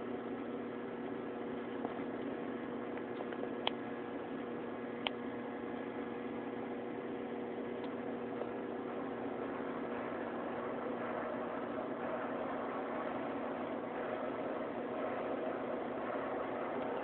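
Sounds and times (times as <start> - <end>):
station platform hum and hiss: 0.0 - 17.0.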